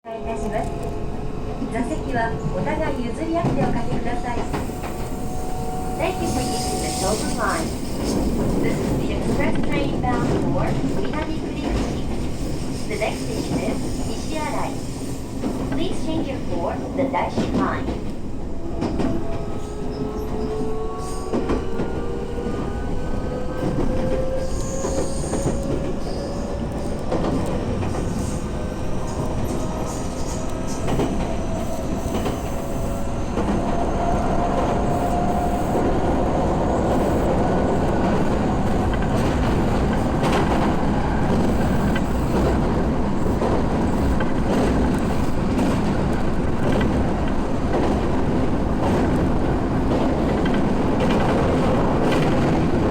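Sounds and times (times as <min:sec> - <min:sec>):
wheels rumbling on rail: 0:00.3 - 0:52.9.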